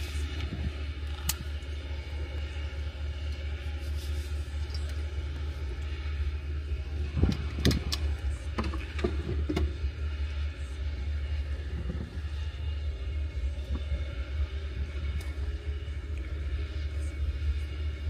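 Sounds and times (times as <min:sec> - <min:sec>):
combine and tractor engine rumble: 0:00.0 - 0:18.0.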